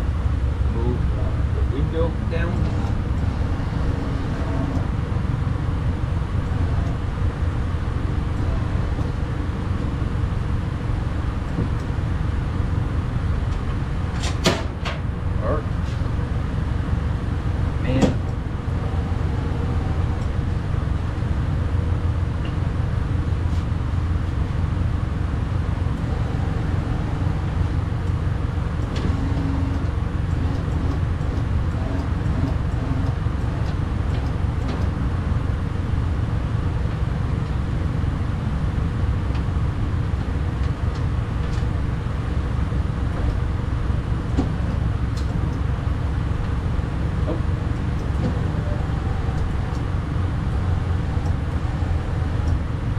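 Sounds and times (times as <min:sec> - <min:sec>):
low rumbling background noise: 0:00.0 - 0:52.9.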